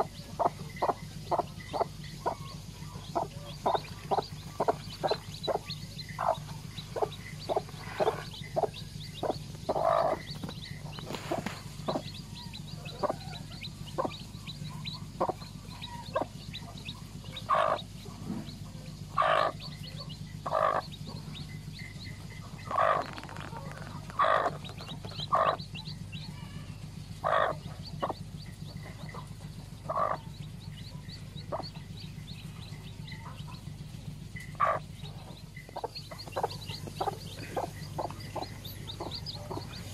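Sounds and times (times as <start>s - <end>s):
chicks peeping: 0.0s - 39.9s
hen clucking: 0.0s - 39.9s
low hum: 0.0s - 39.9s.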